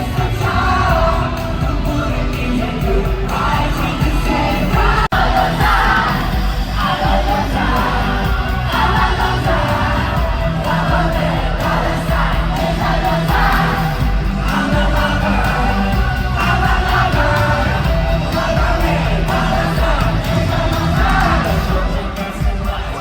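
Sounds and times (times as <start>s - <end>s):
crowd singing and shouting: 0.0s - 23.0s
loud amplified pop music: 0.0s - 23.0s.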